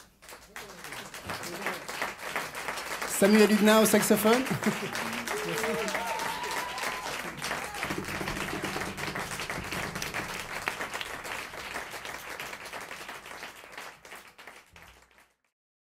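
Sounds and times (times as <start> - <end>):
audience applauding: 0.0 - 15.5.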